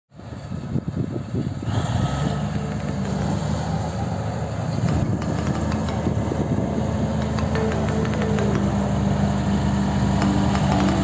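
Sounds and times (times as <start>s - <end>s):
diesel engine humming: 0.2s - 11.0s.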